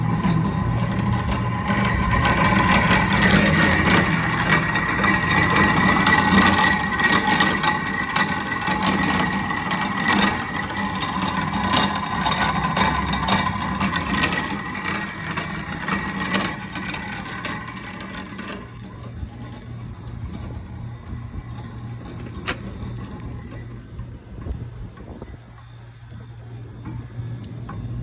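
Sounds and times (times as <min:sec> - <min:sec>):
high whine: 0:00.0 - 0:28.0
low hum: 0:00.0 - 0:28.0.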